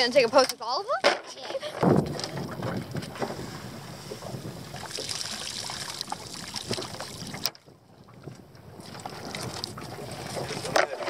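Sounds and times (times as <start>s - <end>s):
waves lapping against hull: 0.0s - 11.0s
wind buffeting microphone: 1.6s - 11.0s.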